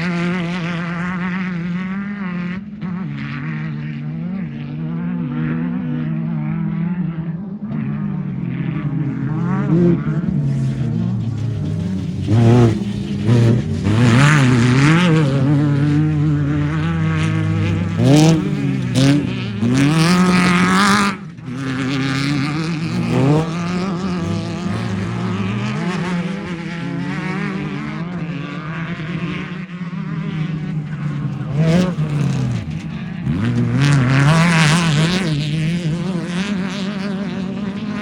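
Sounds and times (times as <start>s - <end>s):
race engines revving: 0.0s - 38.0s.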